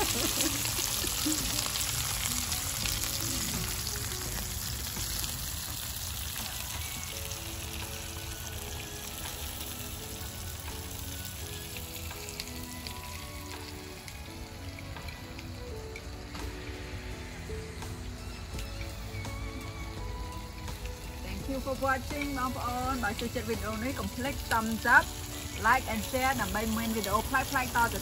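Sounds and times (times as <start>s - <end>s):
meat sizzling on grill pan: 0.0s - 28.0s
soft background music: 0.0s - 28.0s.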